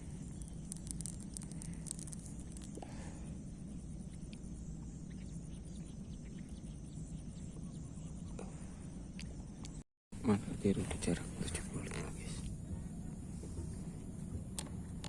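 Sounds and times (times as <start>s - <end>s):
high insect drone: 0.0s - 8.2s, 10.2s - 15.0s
faint bird chirps: 0.0s - 15.0s.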